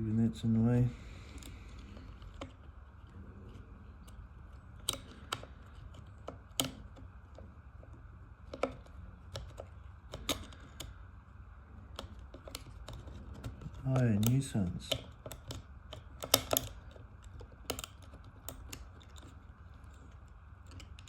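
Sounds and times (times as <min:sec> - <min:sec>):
low steady hum: 0:00.0 - 0:21.0
plastic parts clicking and tapping: 0:01.2 - 0:11.0, 0:11.9 - 0:21.0.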